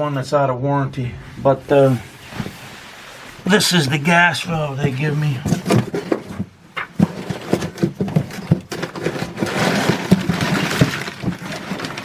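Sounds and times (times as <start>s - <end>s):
rustling: 0.8s - 12.0s.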